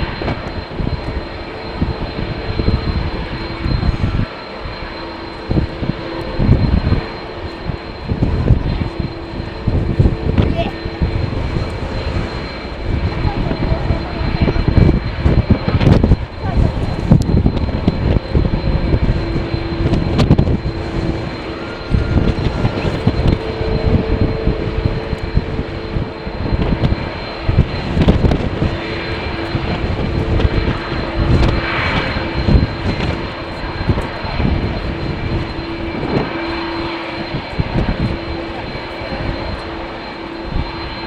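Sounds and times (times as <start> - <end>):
airliner engines humming and whining: 0.0 - 41.0
wind gusting on microphone: 0.0 - 41.0.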